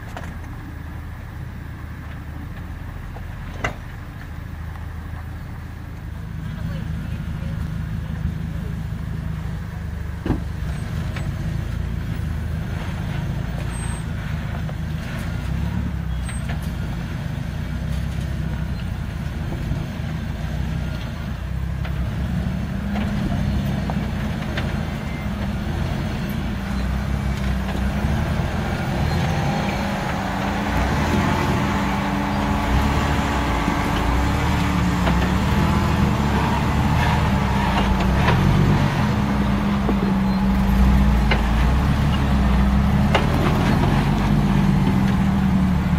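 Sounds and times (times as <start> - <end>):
off-road vehicle engines: 0.0 - 45.9.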